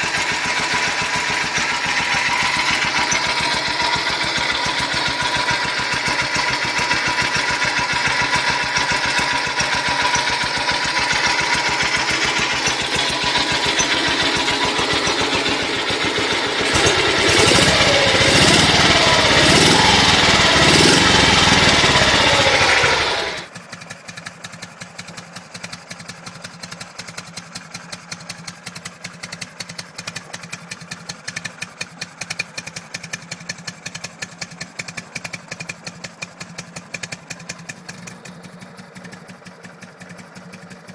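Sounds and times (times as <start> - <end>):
motorcycle engine revving: 0.0 - 26.0, 28.1 - 40.9
motorcycle engine idling: 0.0 - 40.9.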